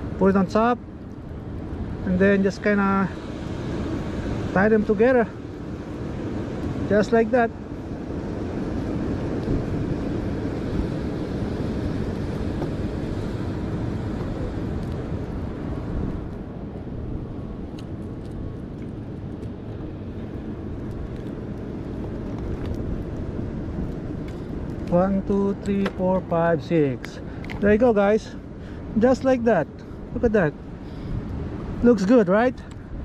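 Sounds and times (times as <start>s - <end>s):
ocean surf: 0.0s - 33.0s
wind rumble on microphone: 0.0s - 33.0s.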